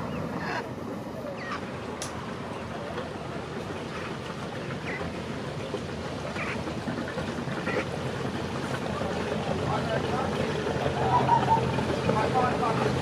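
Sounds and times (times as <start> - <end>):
water wash: 1.2 - 13.0
boat engine running: 1.6 - 13.0.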